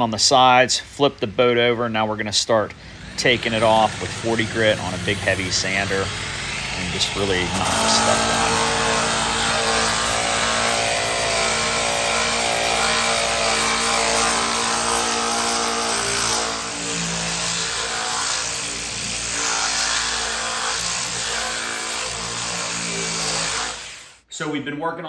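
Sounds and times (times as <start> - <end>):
disc sander grinding paint: 1.3 - 24.2.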